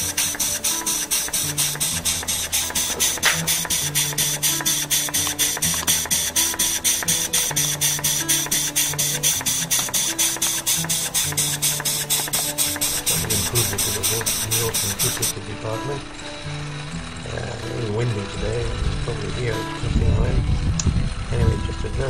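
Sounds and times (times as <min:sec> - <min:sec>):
steam hissing: 0:00.0 - 0:19.8
steam engine exhaust puffing: 0:00.0 - 0:22.0.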